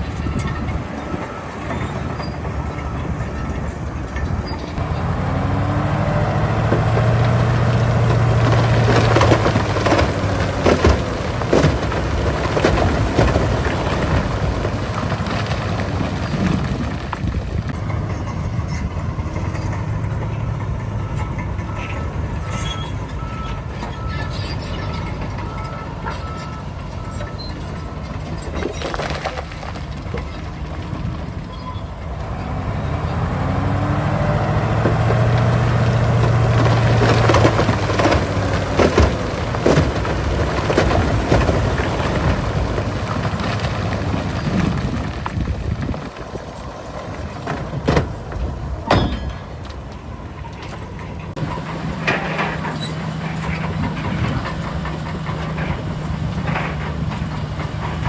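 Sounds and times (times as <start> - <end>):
diesel machinery droning: 0.0 - 58.0
rock and metal clanking: 0.0 - 58.0.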